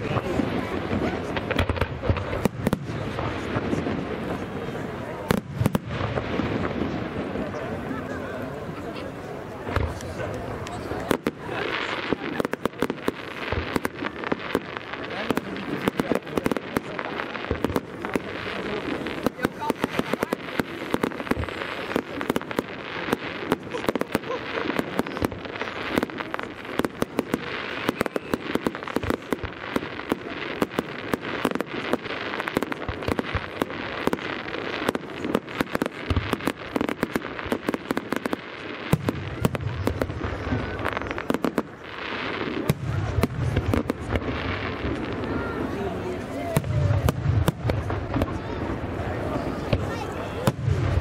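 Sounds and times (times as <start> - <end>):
deep firework booms: 0.0 - 7.9, 9.6 - 51.0
fireworks crackling: 0.0 - 51.0.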